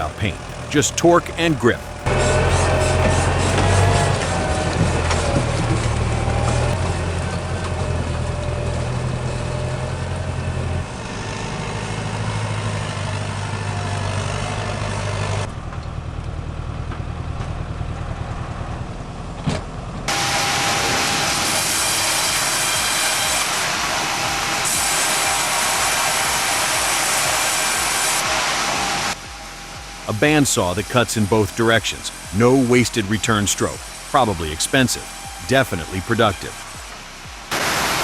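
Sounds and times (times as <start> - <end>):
machine thin whine: 0.0 - 15.5, 20.1 - 38.0
heavy machinery engines humming: 0.0 - 38.0.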